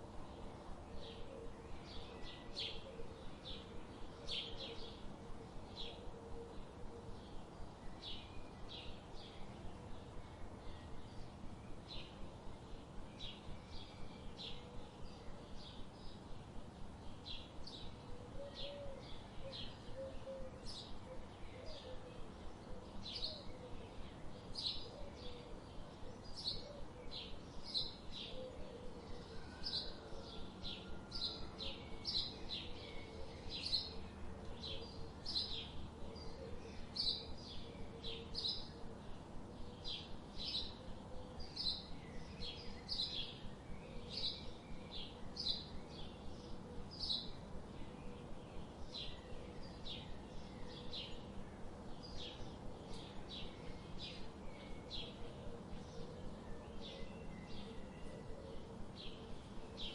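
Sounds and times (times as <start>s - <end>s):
low background hiss: 0.0s - 59.9s
songbirds chirping: 0.0s - 59.9s.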